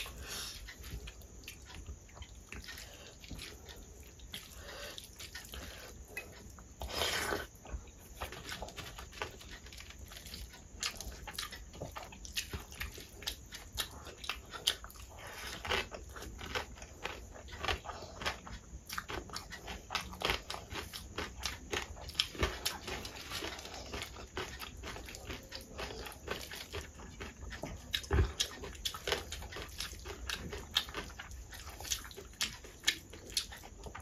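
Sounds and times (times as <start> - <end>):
chewing and crunching: 0.0 - 34.0.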